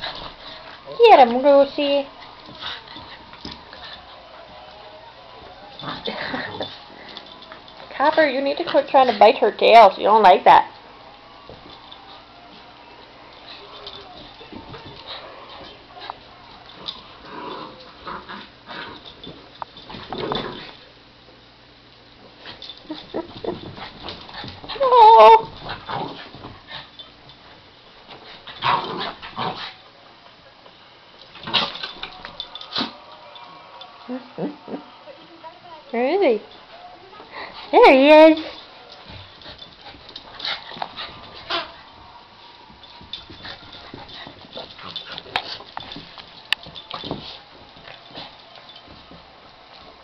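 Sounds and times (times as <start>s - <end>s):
dogs scuffling: 0.0s - 21.0s, 22.2s - 29.9s, 30.6s - 50.0s.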